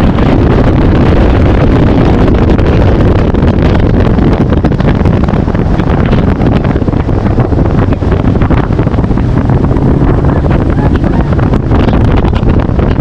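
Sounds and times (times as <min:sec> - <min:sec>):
outboard motor drone: 0:00.0 - 0:13.0
water rushing along hull: 0:00.0 - 0:13.0
wind buffeting microphone: 0:00.0 - 0:13.0.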